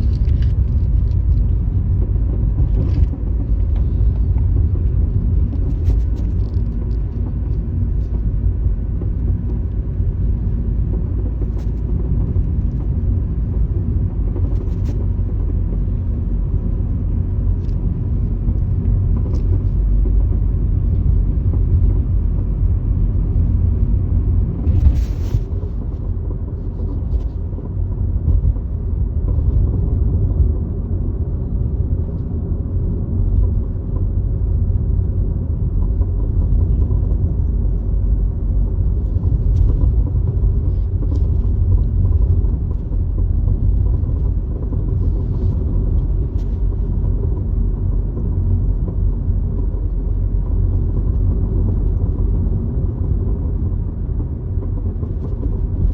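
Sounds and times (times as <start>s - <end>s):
car road noise rumble: 0.0s - 55.9s.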